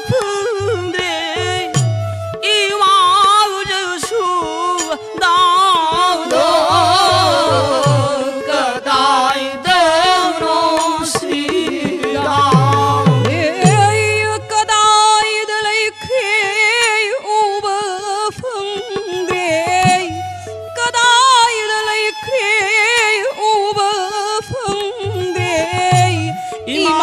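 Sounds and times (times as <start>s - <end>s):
harmonium: 0.0s - 27.0s
violin: 0.0s - 27.0s
woman singing with vibrato: 0.0s - 27.0s.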